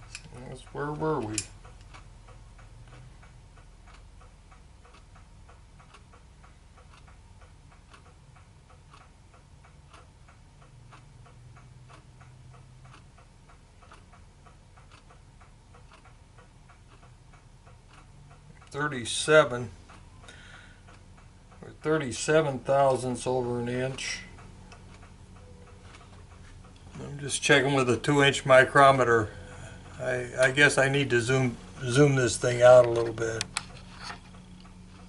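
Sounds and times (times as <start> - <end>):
clock ticking: 0.0 - 35.0.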